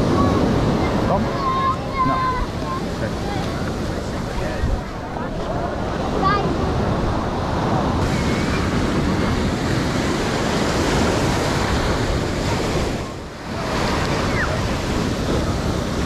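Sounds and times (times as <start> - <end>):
ocean surf breaking: 0.0 - 16.0
wind rumbling on microphone: 0.0 - 16.0.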